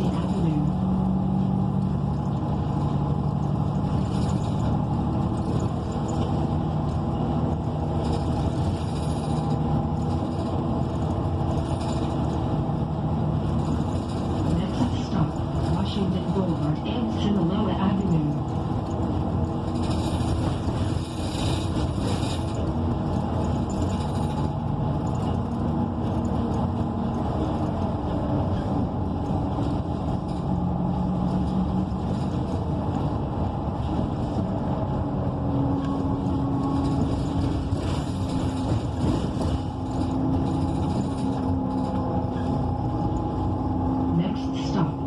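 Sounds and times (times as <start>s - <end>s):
bus engine running: 0.0s - 45.0s
road noise: 0.0s - 45.0s.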